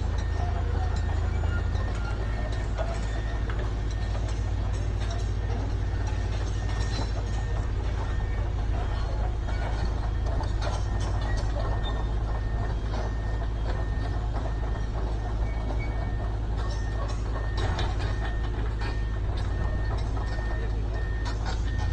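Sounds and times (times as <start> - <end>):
construction machinery engine rumble: 0.0 - 21.9
metallic knocks and clanks: 0.0 - 21.9.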